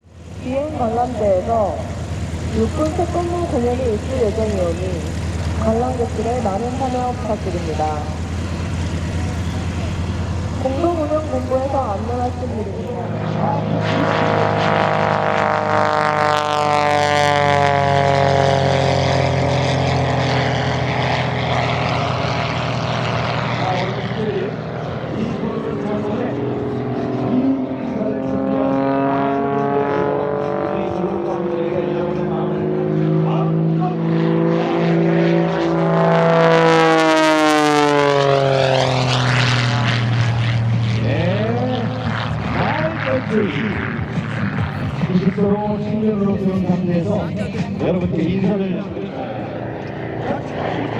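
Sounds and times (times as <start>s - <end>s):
propeller plane engine passing: 0.0s - 50.9s.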